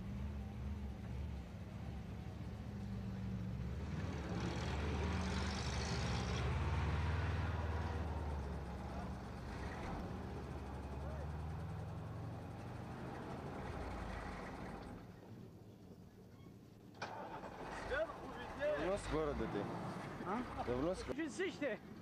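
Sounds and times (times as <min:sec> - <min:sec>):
vehicle passing by: 0:00.0 - 0:15.0, 0:17.4 - 0:21.1
vehicle engine rumbling: 0:00.0 - 0:21.2.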